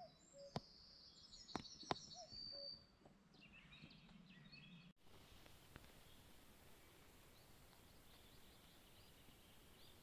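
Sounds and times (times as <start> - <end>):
small birds trilling: 0.0 - 4.9, 5.8 - 10.0.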